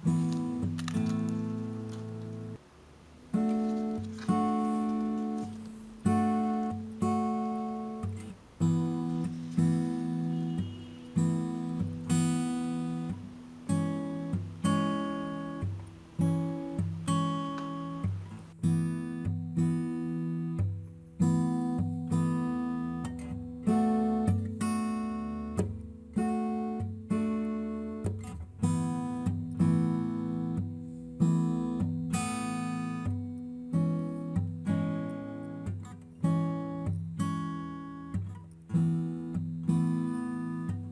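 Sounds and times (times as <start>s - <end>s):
acoustic guitar strummed chords: 0.0s - 40.9s.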